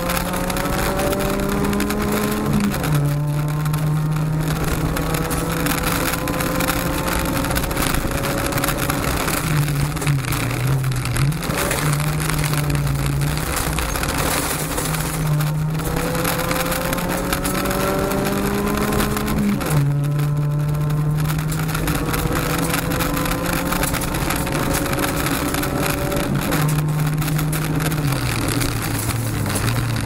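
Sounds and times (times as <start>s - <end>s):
rally car engine revving: 0.0s - 30.0s
tyres on gravel: 0.0s - 30.0s.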